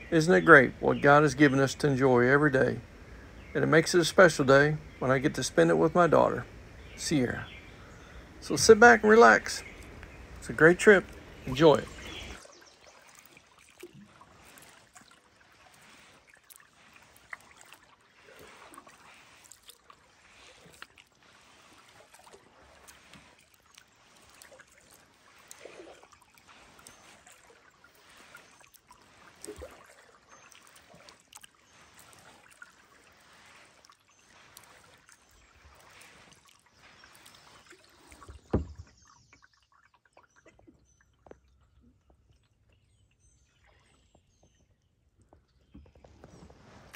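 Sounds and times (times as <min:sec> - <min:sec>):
kayak paddle dipping in water: 0:00.0 - 0:46.9.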